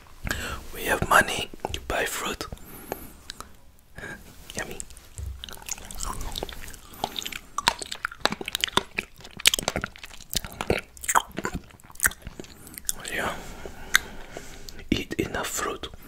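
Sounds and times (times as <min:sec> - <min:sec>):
blackberry chewing crackles: 0:00.1 - 0:16.0.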